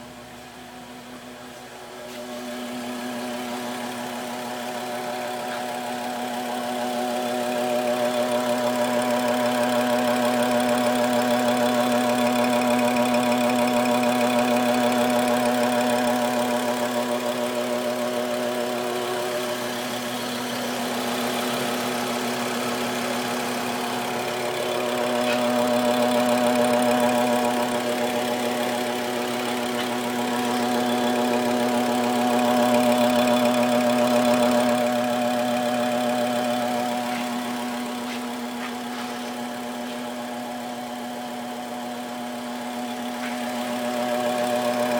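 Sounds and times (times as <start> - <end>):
vehicle engine humming: 0.0 - 44.9.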